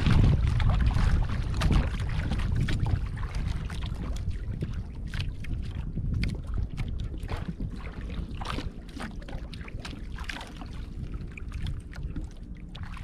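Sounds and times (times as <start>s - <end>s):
water lapping against canoe hull: 0.0s - 13.0s
wind buffeting microphone: 0.0s - 13.0s.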